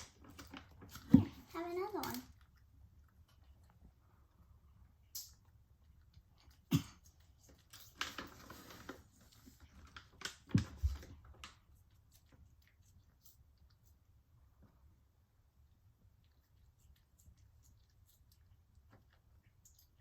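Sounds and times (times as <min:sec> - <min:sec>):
cat crunching a treat: 0:00.0 - 0:14.4, 0:16.0 - 0:20.0.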